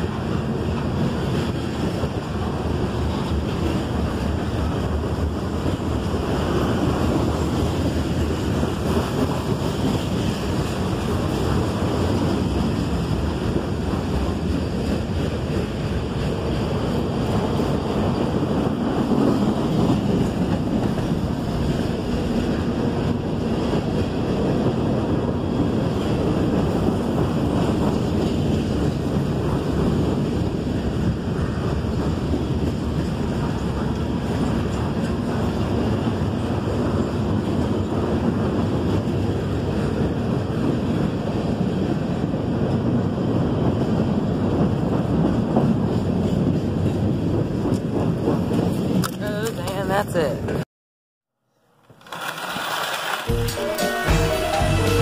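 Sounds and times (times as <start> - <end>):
freight train wheels rumbling: 0.0 - 50.6, 51.9 - 55.0.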